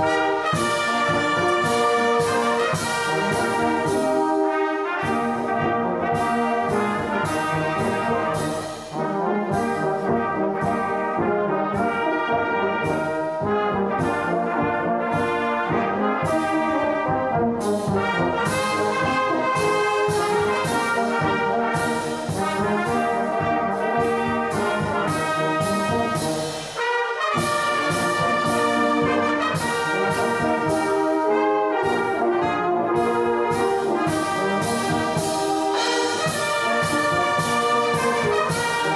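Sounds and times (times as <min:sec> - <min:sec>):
brass band playing a hymn: 0:00.0 - 0:38.9.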